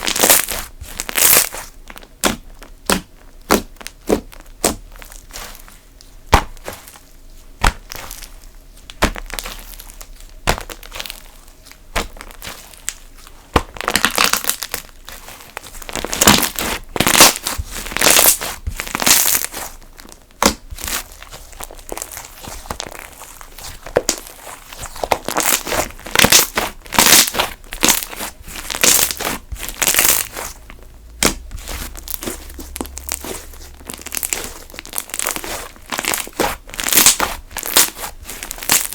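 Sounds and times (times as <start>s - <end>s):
slime squished by hand crackling: 0.0s - 38.9s.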